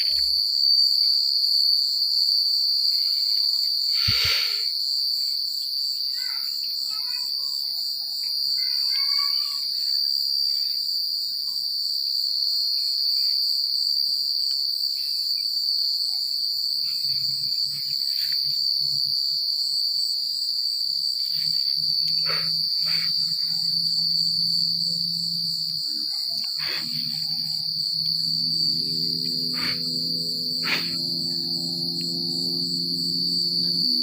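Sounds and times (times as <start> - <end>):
crickets chirping: 0.0 - 34.0.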